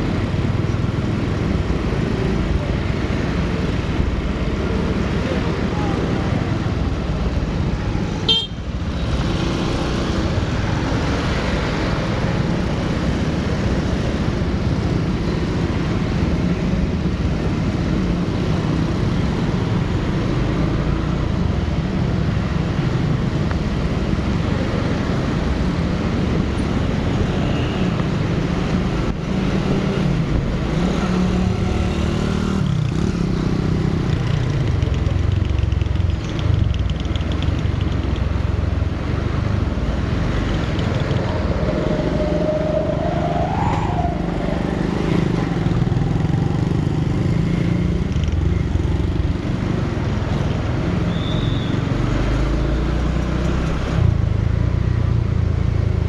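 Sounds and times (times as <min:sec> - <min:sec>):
motorcycle engine and road noise: 0:00.0 - 0:56.0.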